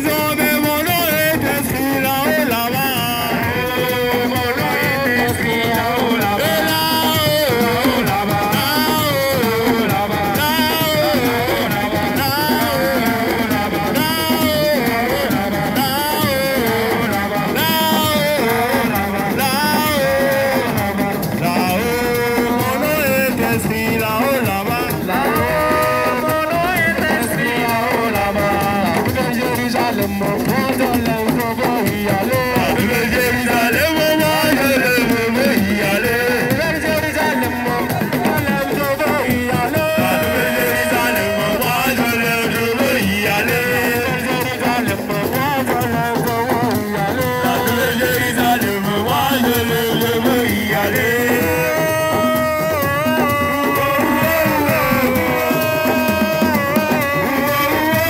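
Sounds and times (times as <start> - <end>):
ornamented sung melody: 0.0 - 58.0
rhythmic percussion: 0.0 - 58.0.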